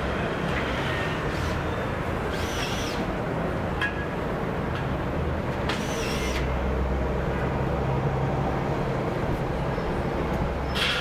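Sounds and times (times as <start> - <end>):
heavy engine rumble: 0.0 - 11.0
hum of passing vehicles: 0.0 - 11.0.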